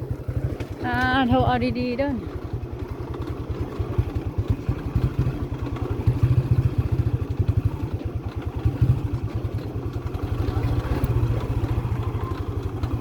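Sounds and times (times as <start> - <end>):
small engine pulsing: 0.0 - 13.0.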